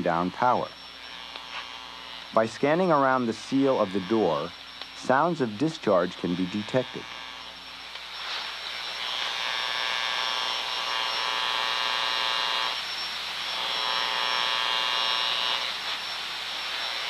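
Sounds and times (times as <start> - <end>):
electrical buzz: 0.0 - 17.0.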